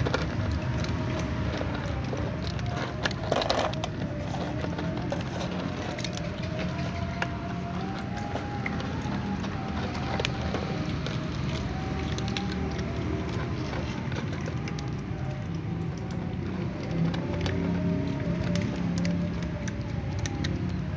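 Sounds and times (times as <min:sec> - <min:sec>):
cats crunching dry kibble: 0:00.0 - 0:20.9.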